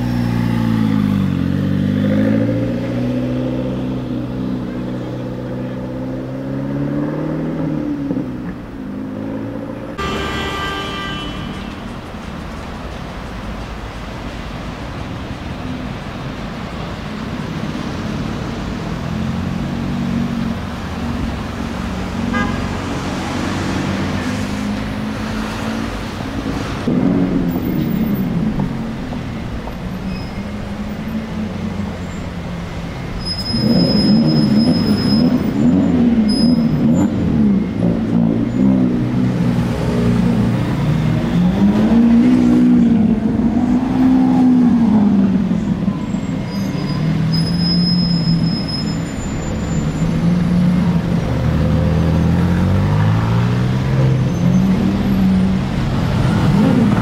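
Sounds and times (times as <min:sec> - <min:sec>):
sports car engines revving: 0:00.0 - 0:10.0, 0:17.0 - 0:57.0.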